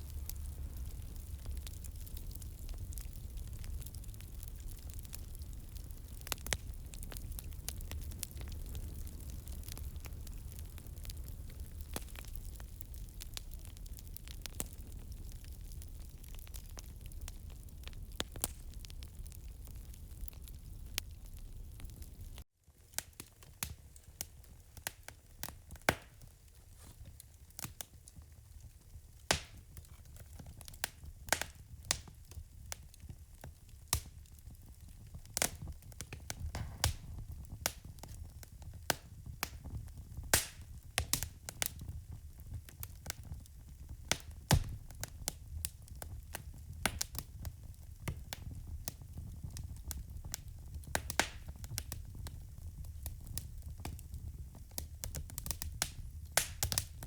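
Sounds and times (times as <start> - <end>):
low rumble of burning fire: 0.0 - 57.0
wood fire crackling: 0.0 - 57.0.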